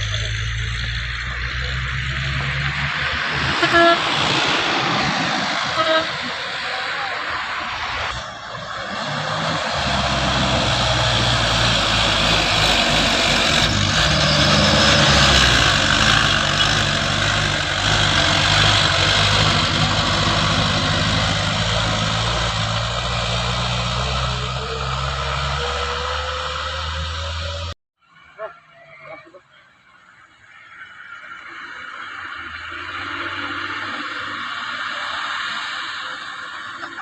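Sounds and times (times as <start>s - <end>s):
road and wind noise: 0.0s - 27.8s, 28.8s - 37.0s
truck engine droning: 0.0s - 27.8s, 28.4s - 37.0s.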